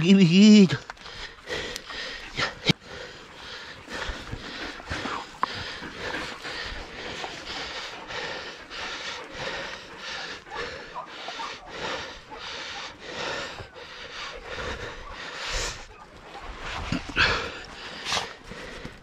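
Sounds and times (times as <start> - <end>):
heavy rhythmic breathing: 0.0 - 19.0.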